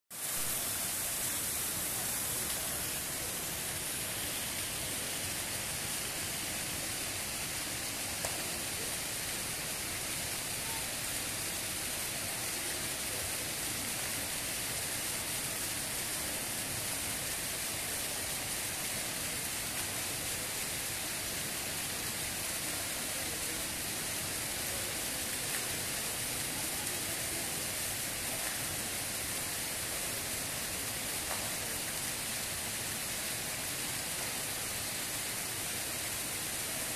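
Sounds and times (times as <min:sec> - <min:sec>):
fountain water splashing: 0:00.2 - 0:36.9.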